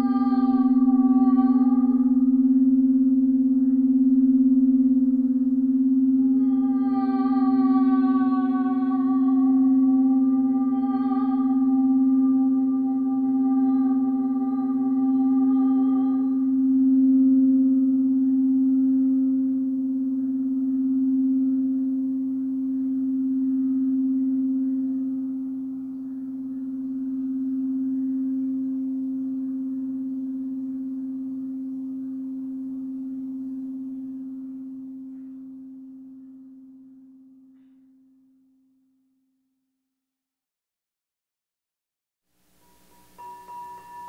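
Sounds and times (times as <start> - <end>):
singing bowl low tone: 0.0 - 39.5, 42.6 - 44.0.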